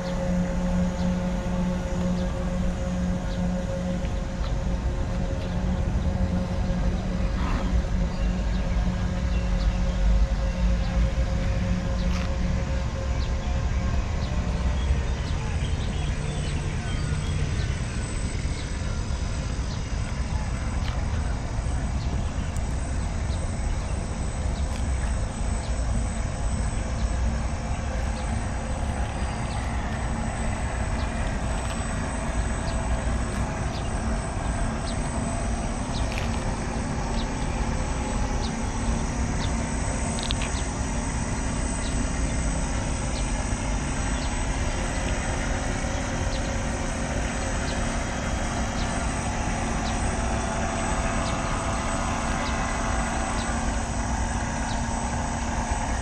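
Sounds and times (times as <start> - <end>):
low outdoor rumble: 0.0 - 56.0
model boat motor hum: 0.0 - 56.0.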